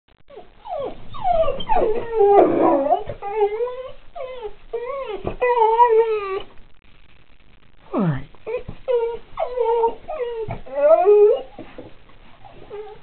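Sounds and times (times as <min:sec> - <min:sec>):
dog whining and howling: 0:00.3 - 0:06.5, 0:08.5 - 0:13.0.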